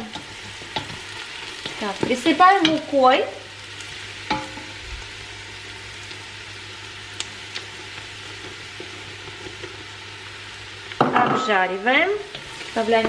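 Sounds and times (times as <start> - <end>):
onions sizzling in a pot: 0.0 - 13.0.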